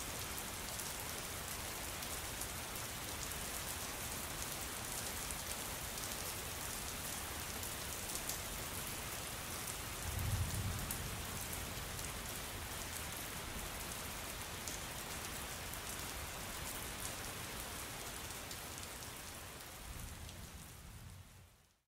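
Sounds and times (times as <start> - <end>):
rain-like hiss: 0.0 - 21.8.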